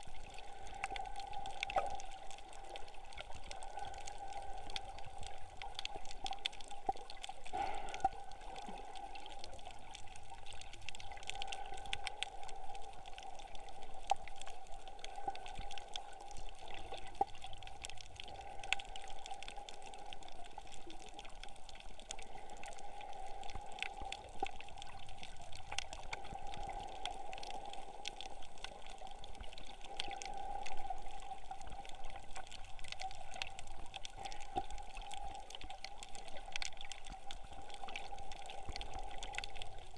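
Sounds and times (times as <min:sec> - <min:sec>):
faint crackling clicks: 0:00.0 - 0:39.9
muffled underwater sound: 0:00.0 - 0:39.9.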